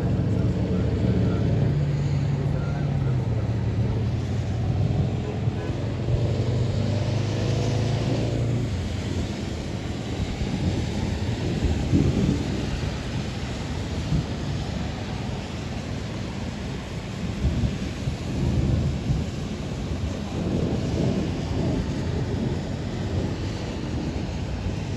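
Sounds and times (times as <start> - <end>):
storm noise: 0.0 - 24.9
thunder rumble: 0.0 - 24.9.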